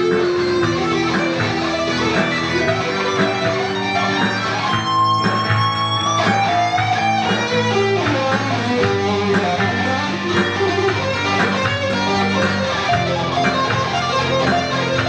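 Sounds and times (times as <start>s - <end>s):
electric guitar bending note: 0.0s - 15.0s
rock band playing: 0.0s - 15.0s.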